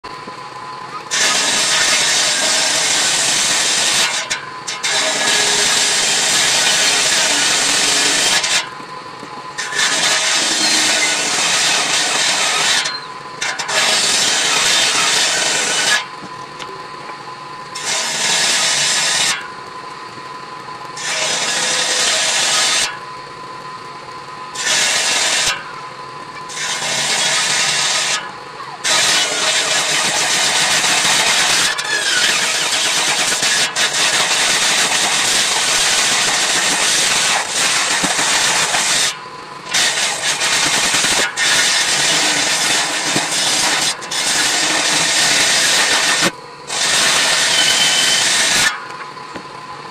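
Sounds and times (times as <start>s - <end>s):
saw blade whine spinning free: 0.8s - 16.7s, 17.6s - 20.1s, 21.0s - 23.8s, 24.5s - 49.8s
table saw ripping wood: 1.1s - 8.7s, 9.6s - 16.1s, 17.8s - 19.5s, 21.0s - 23.0s, 24.6s - 25.7s, 26.5s - 49.0s.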